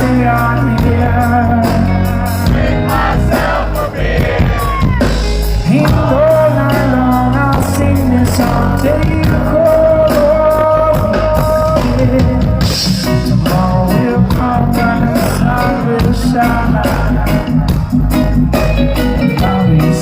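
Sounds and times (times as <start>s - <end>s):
reggae band playing: 0.0s - 20.0s.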